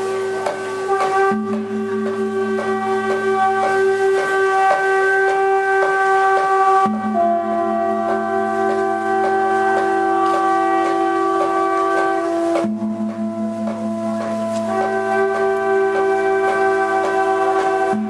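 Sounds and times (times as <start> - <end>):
light steady tapping beat: 0.0 - 18.0.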